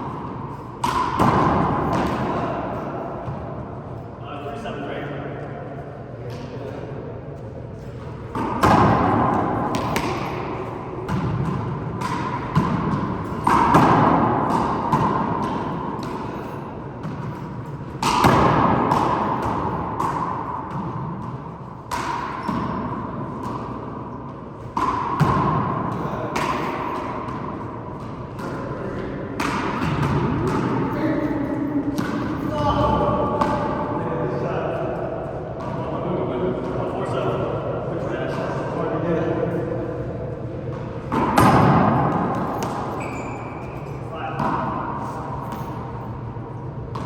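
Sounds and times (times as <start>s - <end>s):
handball hitting walls with echo: 0.0s - 47.0s.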